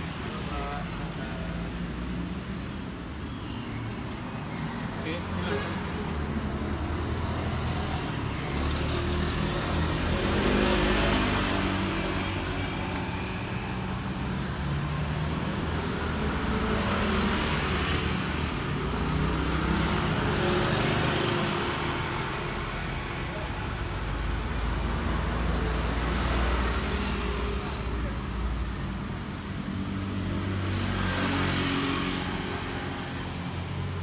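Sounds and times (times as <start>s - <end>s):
vehicles passing close by: 0.0s - 34.0s.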